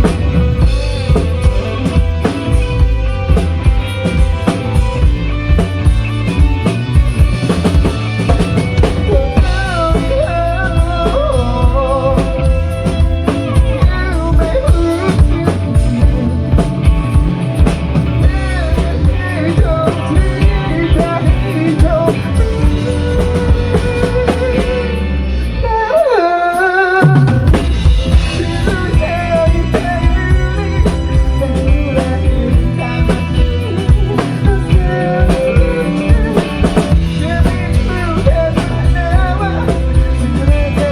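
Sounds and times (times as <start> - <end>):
bass drum: 0.0 - 25.1, 27.0 - 40.9
person singing: 0.0 - 40.9
rock band playing: 0.0 - 40.9.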